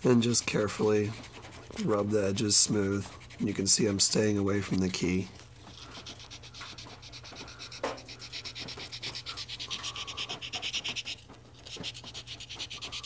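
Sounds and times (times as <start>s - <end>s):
sandpaper rubbing on cork: 0.2s - 13.0s.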